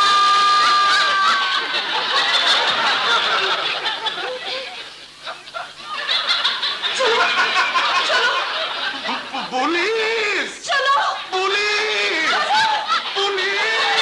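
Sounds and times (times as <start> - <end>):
audience laughter: 0.7 - 9.7, 11.1 - 14.0.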